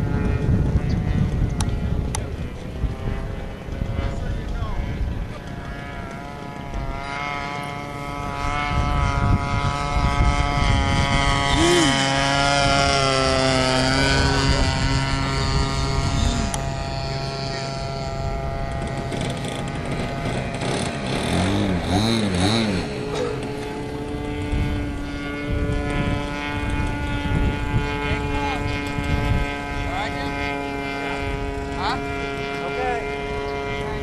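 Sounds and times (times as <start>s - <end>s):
model plane engine flying past: 0.0s - 34.0s.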